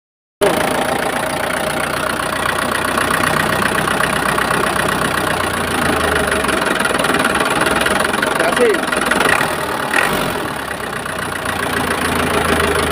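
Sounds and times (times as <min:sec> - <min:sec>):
old engine chugging idle: 0:00.4 - 0:12.9.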